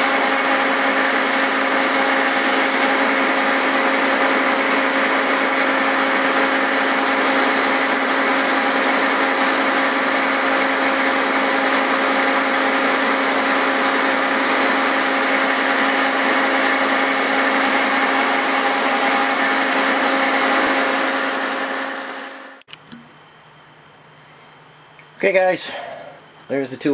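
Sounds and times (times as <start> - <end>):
milling machine whirring: 0.0 - 23.4.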